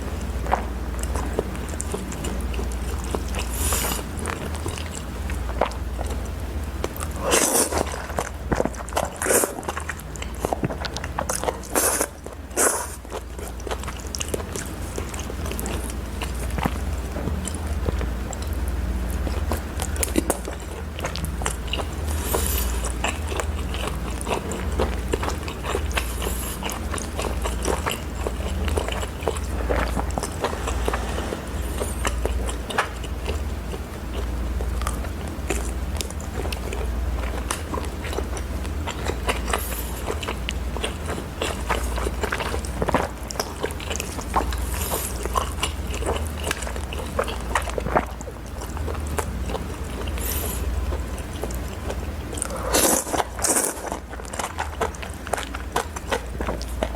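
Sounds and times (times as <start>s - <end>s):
person chewing food: 0.0s - 56.9s
steady low hum: 0.0s - 56.9s.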